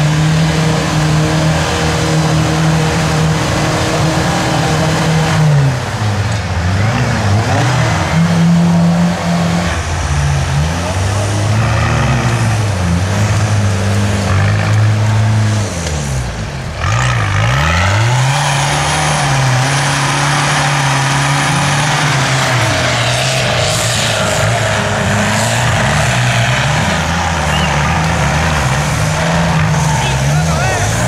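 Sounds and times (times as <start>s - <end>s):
off-road engine revving high: 0.0s - 31.0s.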